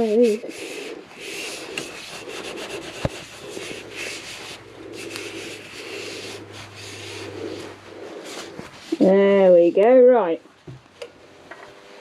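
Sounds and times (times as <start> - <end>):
cloth rubbing on wood: 0.0 - 9.6
steady low hum: 0.0 - 12.0.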